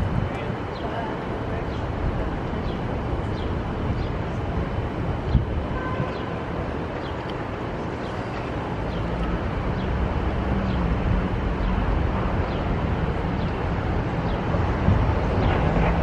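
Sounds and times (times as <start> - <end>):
low rumble of passing vehicles: 0.0 - 16.0
vehicle engine humming: 0.0 - 16.0.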